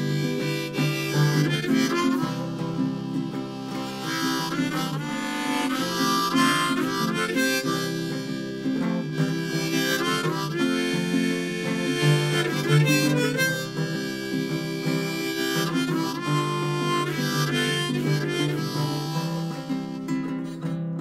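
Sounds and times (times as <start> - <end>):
acoustic guitar accompaniment: 0.0 - 21.0
harmonica melody: 0.0 - 21.0.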